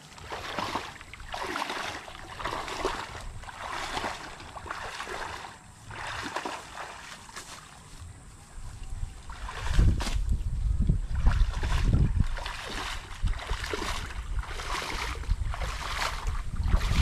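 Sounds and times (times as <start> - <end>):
pond water sloshing and splashing: 0.0 - 17.0.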